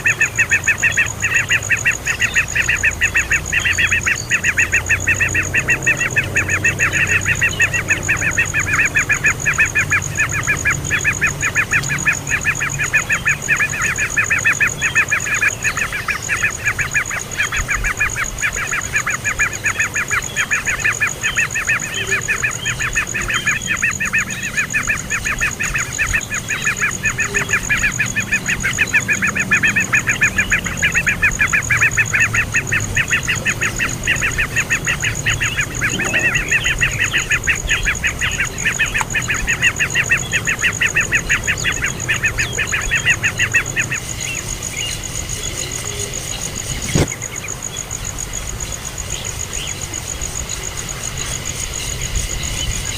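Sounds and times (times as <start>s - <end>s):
young bird chirping rapidly: 0.0s - 47.3s.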